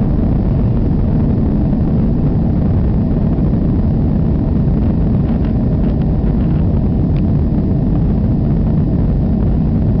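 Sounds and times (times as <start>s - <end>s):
jet engines droning: 0.0s - 10.0s.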